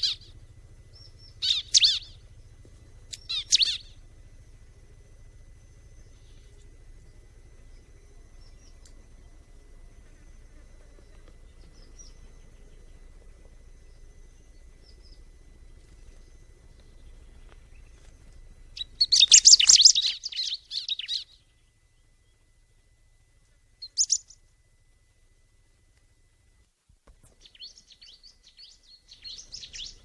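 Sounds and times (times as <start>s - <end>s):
small bird chirping: 0.0s - 22.6s, 23.7s - 24.5s, 27.2s - 30.0s.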